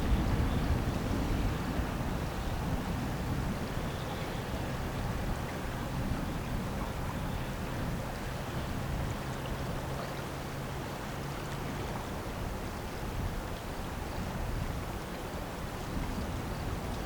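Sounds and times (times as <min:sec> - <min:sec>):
river water: 0:00.0 - 0:17.0
wind: 0:00.0 - 0:17.0.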